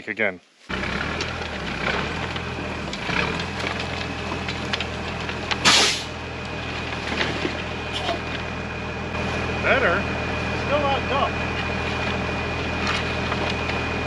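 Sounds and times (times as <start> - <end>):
diesel truck engine running: 0.7 - 14.0.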